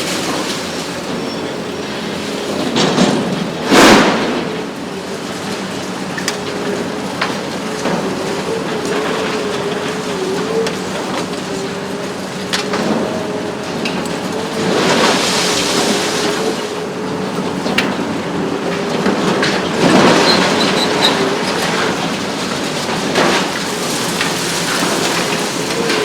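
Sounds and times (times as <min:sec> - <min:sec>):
excavator hydraulic whine: 0:00.0 - 0:03.6, 0:06.9 - 0:26.0
demolition crashing: 0:00.0 - 0:26.0.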